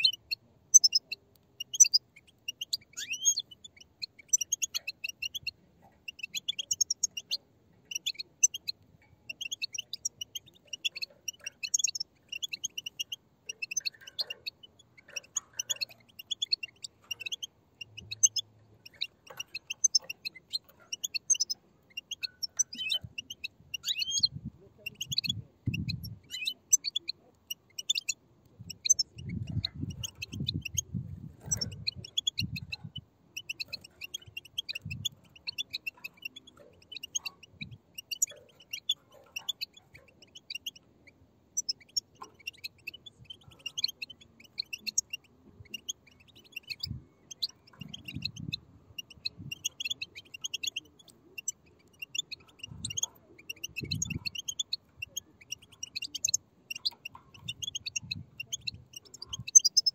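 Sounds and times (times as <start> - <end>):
bird chicks begging chirps: 0.0 - 59.9.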